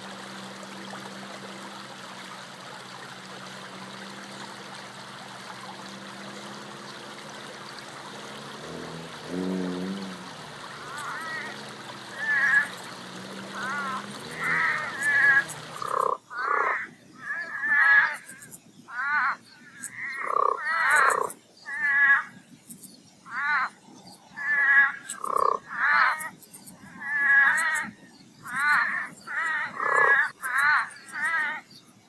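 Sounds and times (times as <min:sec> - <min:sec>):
toads calling: 0:00.0 - 0:31.9.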